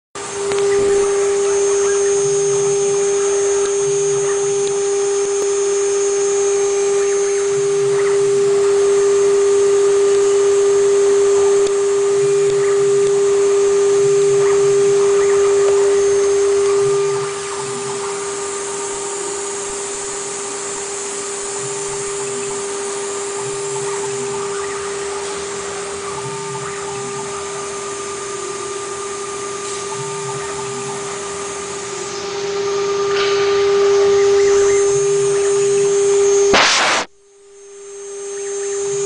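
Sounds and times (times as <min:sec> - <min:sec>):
low hum: 0:00.2 - 0:39.0
router spindle high whine: 0:00.2 - 0:39.0.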